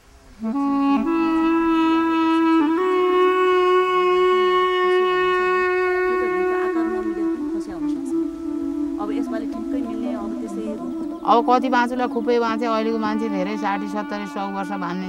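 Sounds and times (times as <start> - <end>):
faint wavering low accompaniment: 0.0 - 15.0
wind instrument long held notes: 0.0 - 15.0.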